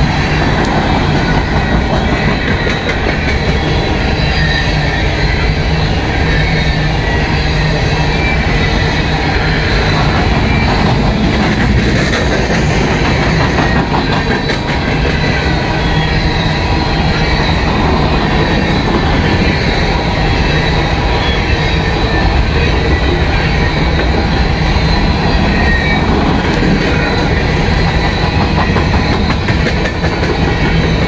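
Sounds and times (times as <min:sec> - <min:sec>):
faint high wheel squeal: 0:00.0 - 0:31.0
rumble of wheels on rail: 0:00.0 - 0:31.0.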